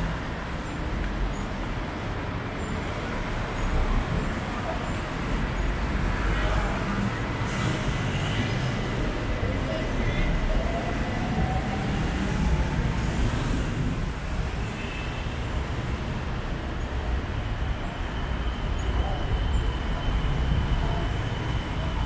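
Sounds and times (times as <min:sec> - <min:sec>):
city road traffic: 0:00.0 - 0:22.0.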